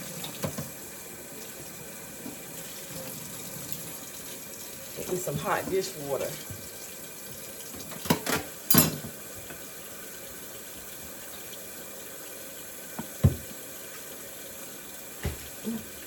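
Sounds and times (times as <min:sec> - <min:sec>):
faucet water running into sink: 0:00.0 - 0:16.0.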